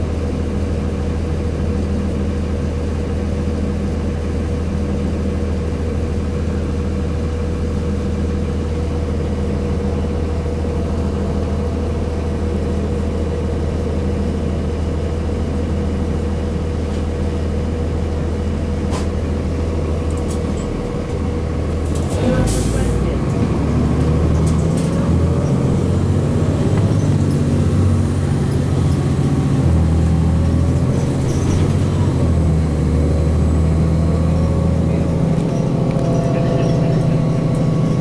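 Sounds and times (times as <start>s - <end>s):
diesel bus engine running: 0.0s - 38.0s.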